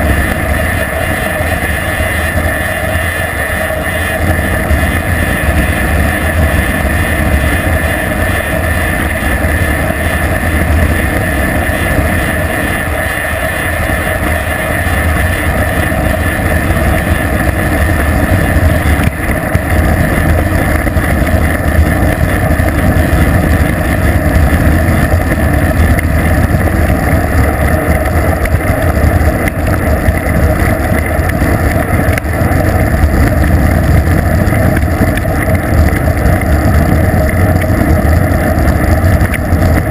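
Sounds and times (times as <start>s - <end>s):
road noise: 0.0s - 39.9s
wind buffeting microphone: 0.0s - 39.9s.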